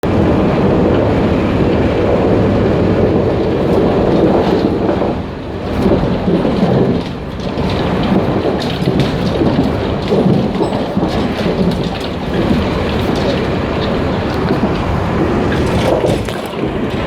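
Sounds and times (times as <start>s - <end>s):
train rumble and rattle in gangway: 0.0s - 17.0s.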